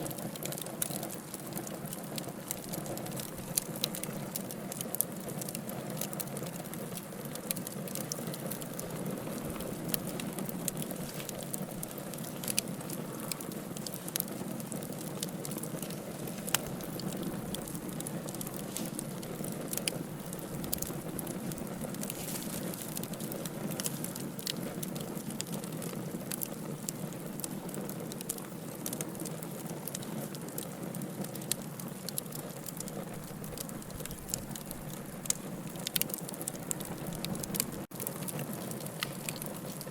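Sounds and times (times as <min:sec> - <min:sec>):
fire crackling and popping: 0:00.0 - 0:39.9
low rush of flames: 0:00.0 - 0:39.9.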